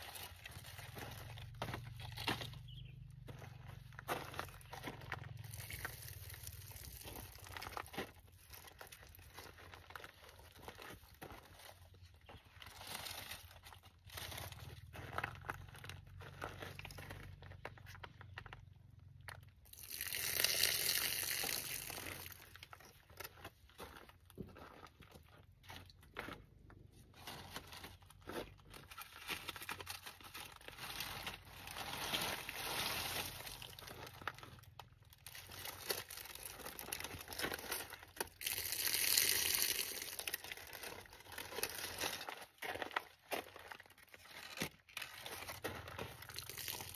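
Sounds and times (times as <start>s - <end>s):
rustling and crunching: 0.0s - 46.9s.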